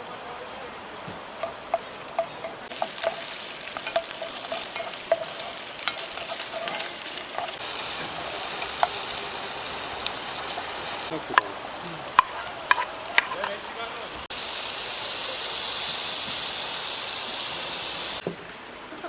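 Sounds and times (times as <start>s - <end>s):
food sizzling in a hot pan: 0.0s - 18.2s.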